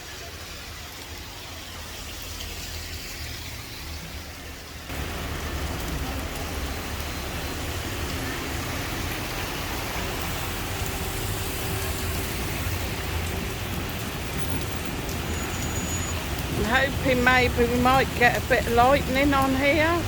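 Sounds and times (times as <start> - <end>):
heavy rain on street: 0.0 - 20.0.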